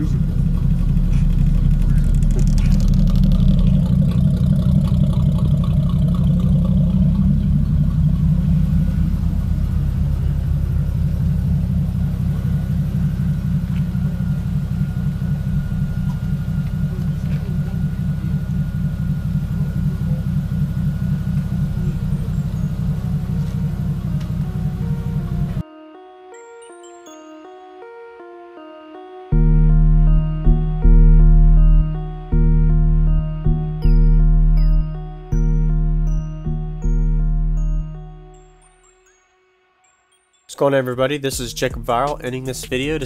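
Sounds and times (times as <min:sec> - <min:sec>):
deep subwoofer bass music: 0:00.0 - 0:25.6, 0:29.3 - 0:38.8, 0:41.4 - 0:43.0.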